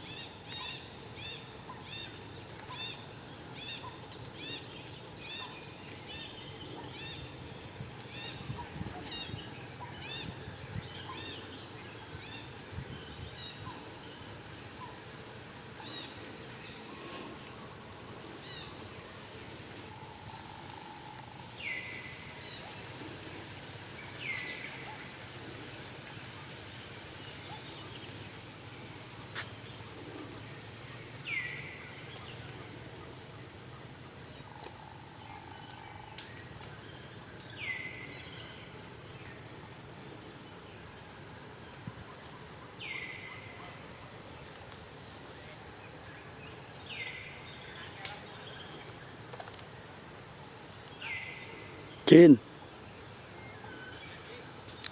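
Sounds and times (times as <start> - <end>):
insect chorus: 0.0 - 54.9.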